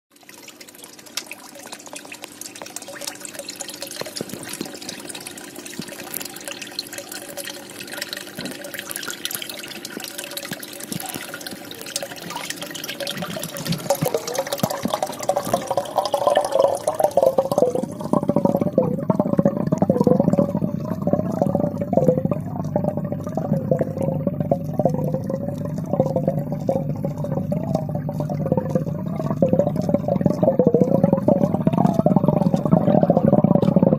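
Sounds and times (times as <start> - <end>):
muffled underwater flow: 0.1 - 33.9
water pouring and splashing: 0.1 - 33.9.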